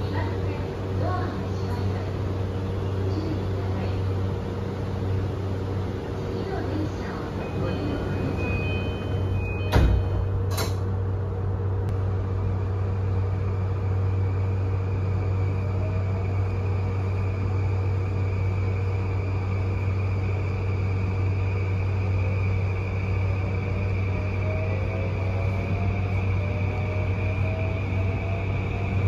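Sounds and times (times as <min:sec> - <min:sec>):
train cabin rumble: 0:00.0 - 0:29.0.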